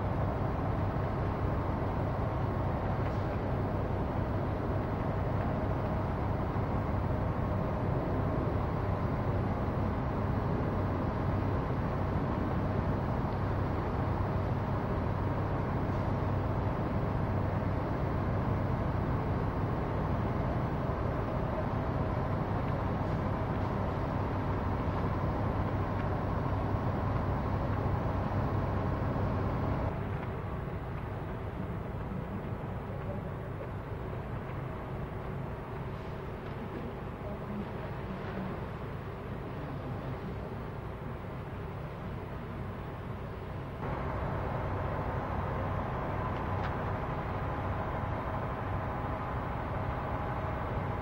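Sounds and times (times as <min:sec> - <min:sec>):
fire engines and pumps running: 0:00.0 - 0:51.0.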